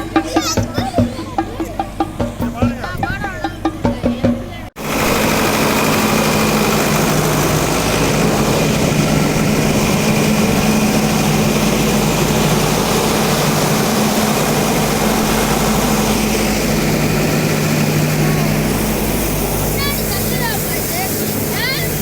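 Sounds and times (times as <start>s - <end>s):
train rumbling: 0.0s - 22.0s
low engine hum: 3.0s - 22.0s.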